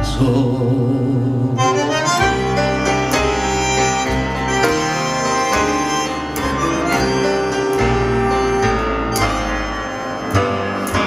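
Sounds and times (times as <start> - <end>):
tango ensemble playing: 0.0 - 11.0.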